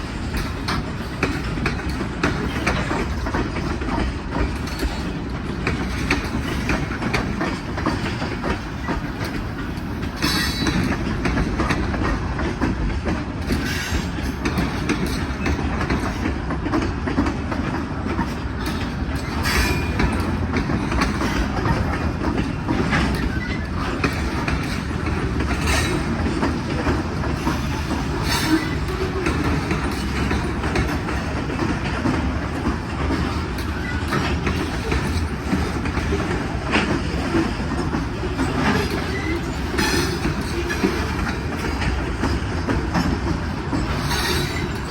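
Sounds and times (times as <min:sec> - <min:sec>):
freight train wheels clattering: 0:00.0 - 0:44.9.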